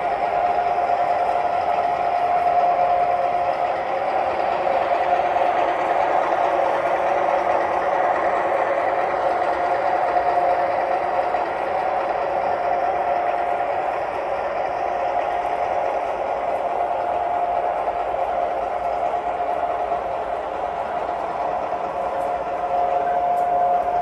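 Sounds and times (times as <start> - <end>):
held hum: 0.0 - 24.0
model train whirring: 0.0 - 24.0.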